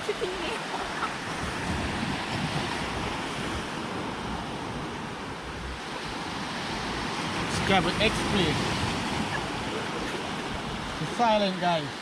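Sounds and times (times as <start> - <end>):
wind on microphone: 0.0 - 11.2
sea surf washing on shore: 0.0 - 12.0.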